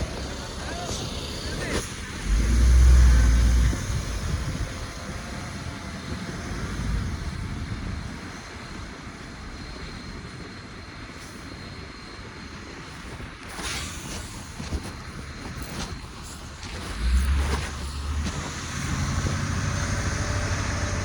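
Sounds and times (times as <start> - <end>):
heavy machinery engine rumble: 0.0 - 21.0.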